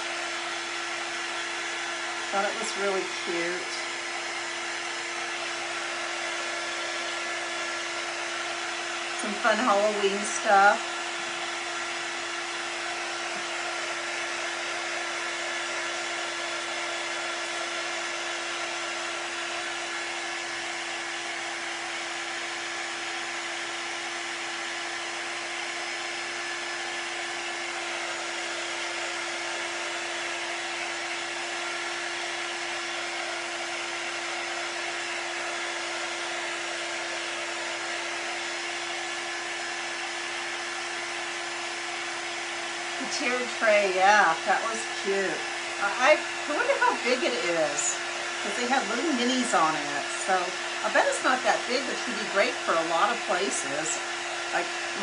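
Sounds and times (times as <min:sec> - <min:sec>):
heat tool fan whirring: 0:00.0 - 0:55.0.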